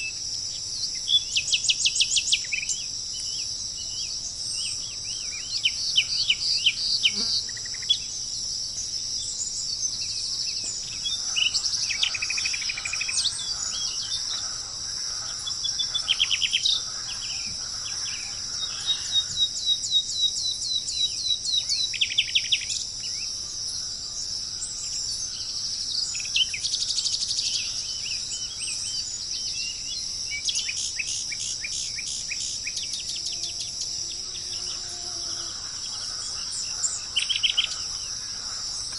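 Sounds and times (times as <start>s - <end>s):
high-pitched insect chorus: 0.0s - 38.9s
songbirds chirping and trilling: 0.0s - 38.9s.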